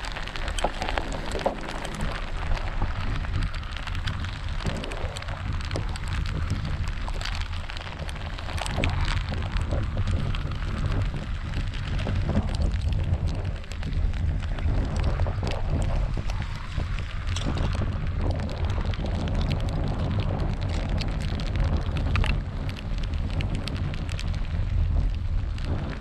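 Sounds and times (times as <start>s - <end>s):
heavy rain on river: 0.0s - 26.0s
raindrops ticking on camera: 0.0s - 26.0s
wind buffeting microphone: 0.0s - 26.0s.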